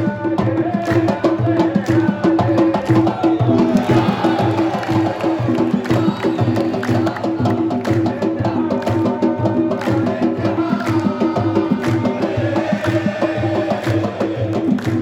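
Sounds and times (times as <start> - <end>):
drums and hand percussion: 0.0 - 15.0.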